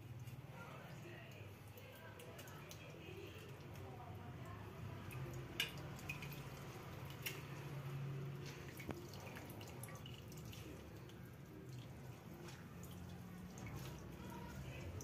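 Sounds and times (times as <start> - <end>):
water dripping into metal bowl: 0.0 - 15.0.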